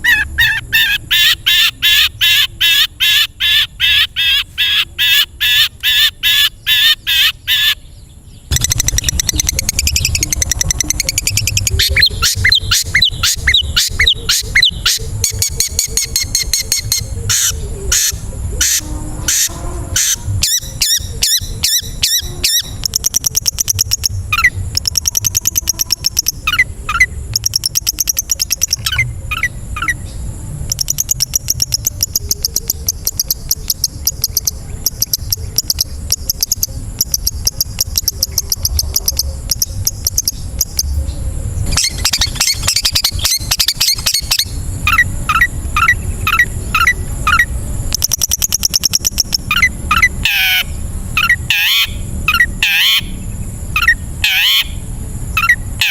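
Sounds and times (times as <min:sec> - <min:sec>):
bird singing fast chattering song: 0:00.0 - 0:55.9
faint steady high whine: 0:00.0 - 0:55.9.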